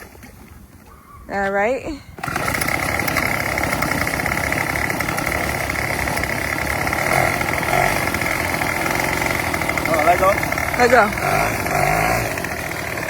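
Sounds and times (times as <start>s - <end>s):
small engine running: 1.9s - 13.0s.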